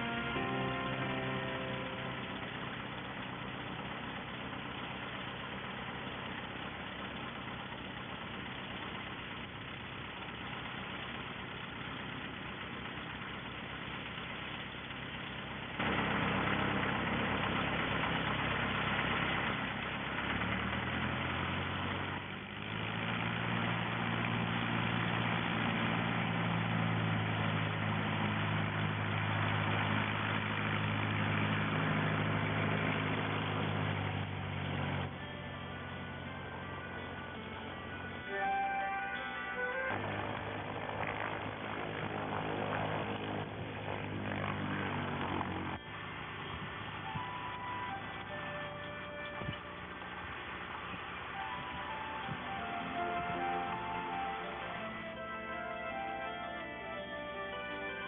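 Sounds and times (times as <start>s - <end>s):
low hum of several tones: 0.0s - 57.7s
engine running: 0.0s - 58.0s.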